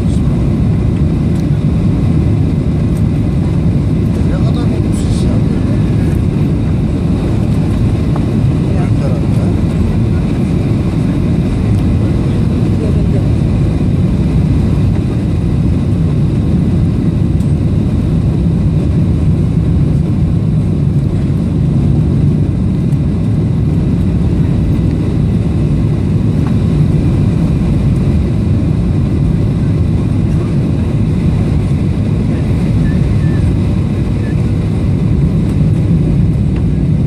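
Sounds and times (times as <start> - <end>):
jet engine rumble in cabin: 0.0 - 37.0.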